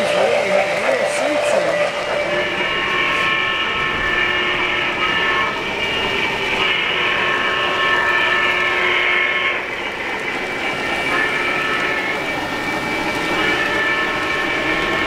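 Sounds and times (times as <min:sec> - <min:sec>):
model train horn chime: 0:00.0 - 0:15.0
model train running noise: 0:00.0 - 0:15.0.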